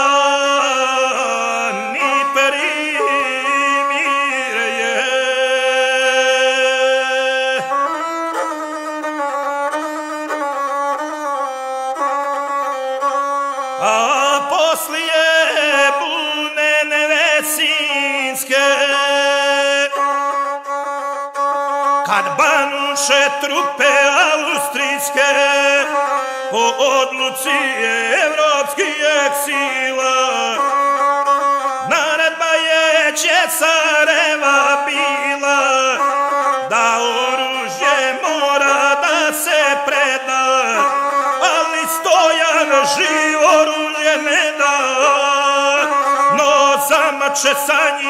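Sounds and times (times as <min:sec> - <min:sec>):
bowed single-string fiddle melody: 0:00.0 - 0:48.0.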